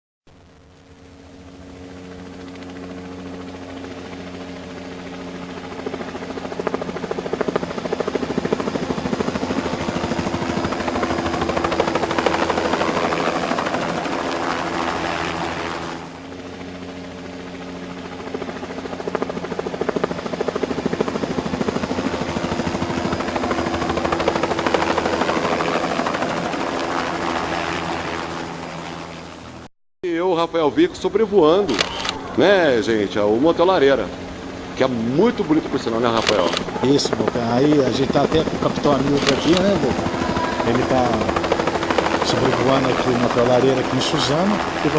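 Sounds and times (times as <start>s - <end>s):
helicopter in flight: 0.3s - 44.9s.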